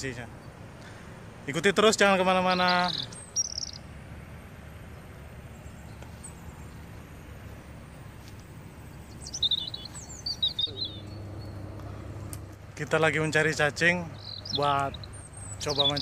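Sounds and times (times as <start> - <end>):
outdoor background noise: 0.0 - 16.0
bird chirping: 2.1 - 16.0.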